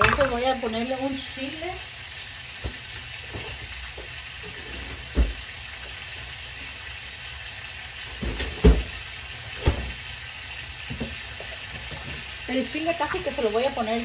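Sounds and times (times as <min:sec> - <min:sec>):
vegetables frying in oil: 0:00.0 - 0:14.0.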